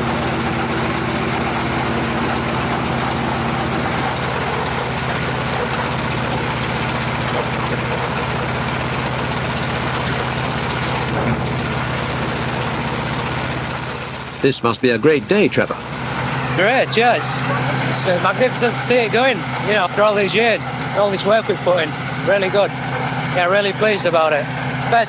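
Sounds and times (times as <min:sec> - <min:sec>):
radial aircraft engine running: 0:00.0 - 0:25.0.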